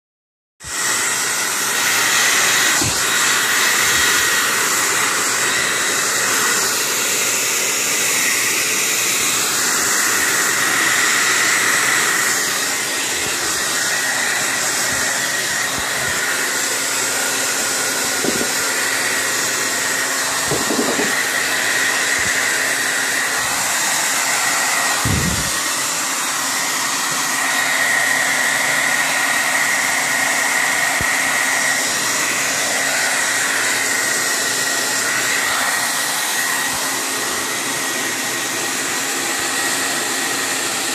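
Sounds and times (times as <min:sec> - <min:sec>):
hair dryer running: 0:00.6 - 0:40.9.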